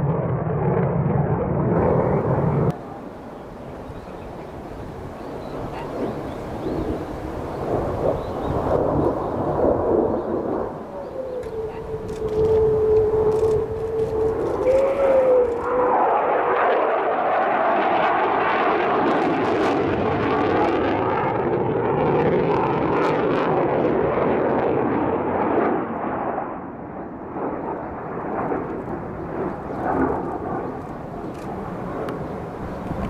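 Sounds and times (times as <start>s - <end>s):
jet engines in flight: 0.0s - 33.0s.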